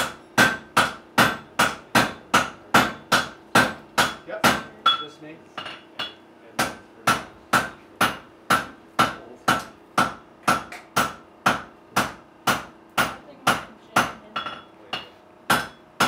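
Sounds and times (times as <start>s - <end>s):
hammer striking steel on anvil: 0.0s - 16.0s.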